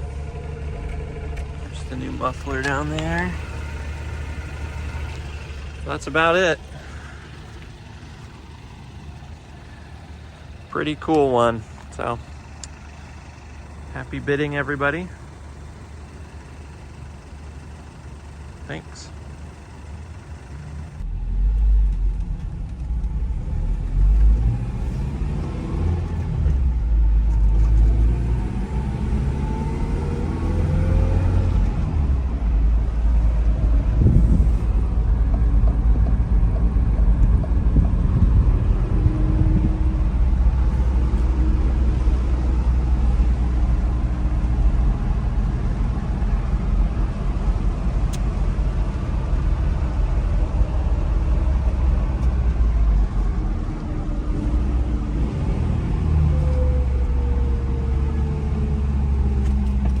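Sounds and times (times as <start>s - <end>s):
pickup engine accelerating: 0.0s - 60.0s.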